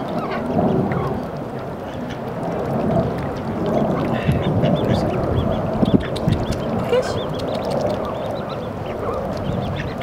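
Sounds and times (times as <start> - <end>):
ducklings peeping: 0.0 - 2.3, 3.0 - 10.0.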